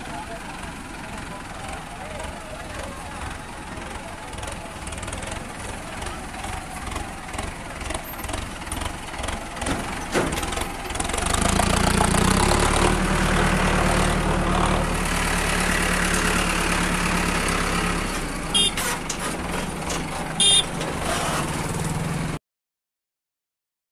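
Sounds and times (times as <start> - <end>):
diesel engine running: 0.0 - 22.4.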